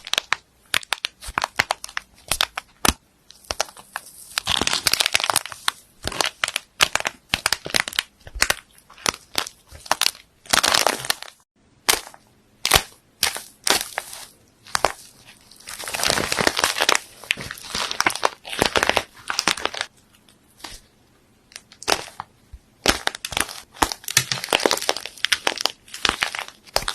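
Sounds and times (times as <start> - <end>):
slime crackling and popping: 0.0 - 19.9, 21.5 - 26.9.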